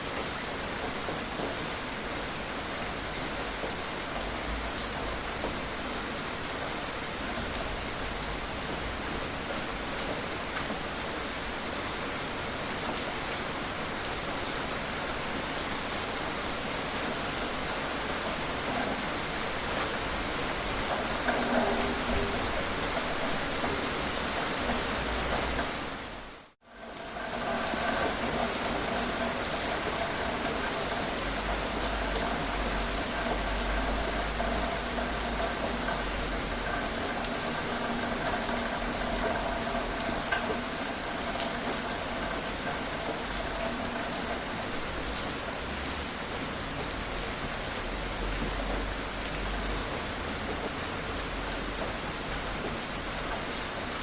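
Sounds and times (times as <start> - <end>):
gentle rain patter: 0.0 - 54.0.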